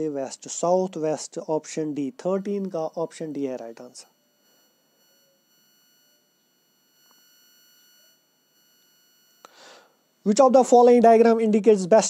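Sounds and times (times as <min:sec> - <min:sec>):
faint high-pitched electronic tone: 0:00.0 - 0:12.0.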